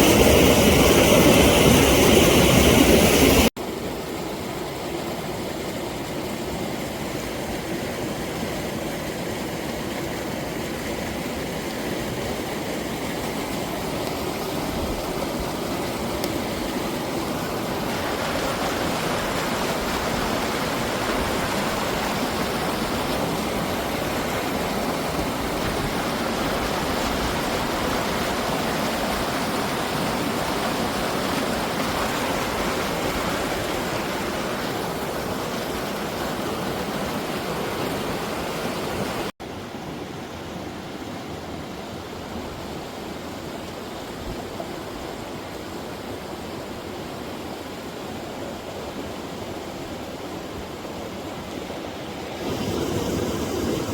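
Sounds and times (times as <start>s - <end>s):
stream rushing: 0.0s - 53.9s.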